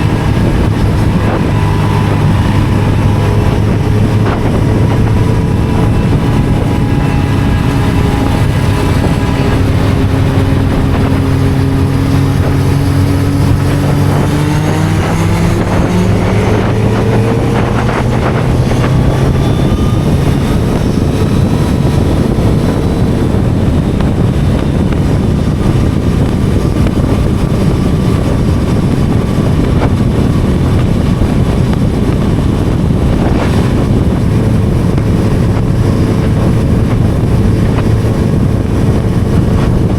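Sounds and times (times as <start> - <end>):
motorcycle engine running: 0.0 - 39.9
road roar: 0.0 - 39.9
wind buffeting microphone: 0.0 - 39.9.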